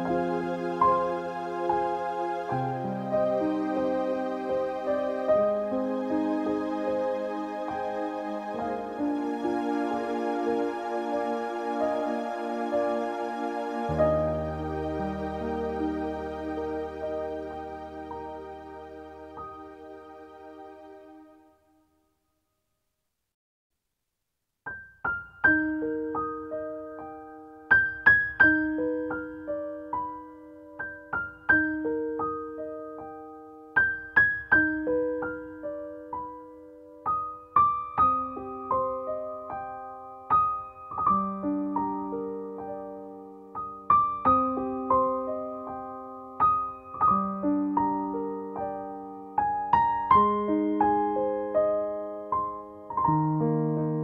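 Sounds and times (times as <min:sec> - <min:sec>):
gentle piano melody: 0:00.0 - 0:21.7, 0:24.7 - 0:54.0.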